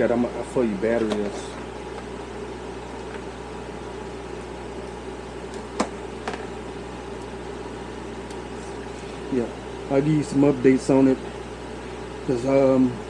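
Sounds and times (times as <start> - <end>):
mechanical background hum: 0.0 - 13.0.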